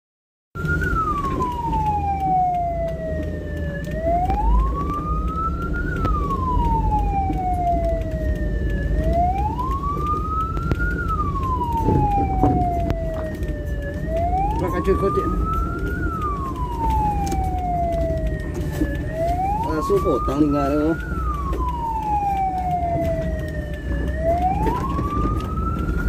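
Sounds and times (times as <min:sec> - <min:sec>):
ambulance siren wailing: 0:00.6 - 0:26.0
steady low rumble: 0:00.6 - 0:26.0.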